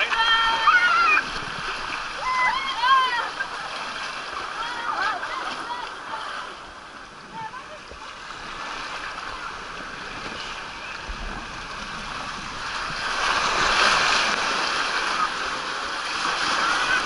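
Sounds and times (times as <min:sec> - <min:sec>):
water rushing down slide channel: 0:00.0 - 0:17.0.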